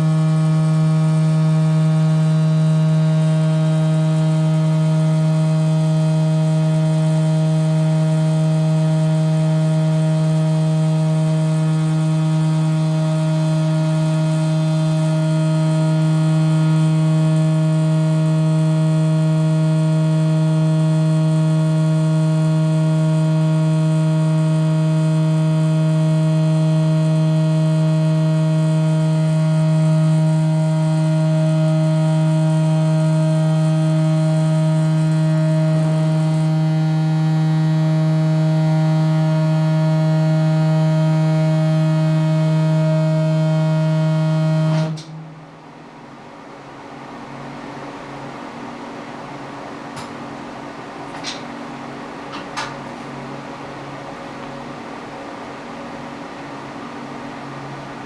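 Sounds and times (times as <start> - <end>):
scanner gantry spinning hum: 0.0 - 58.0.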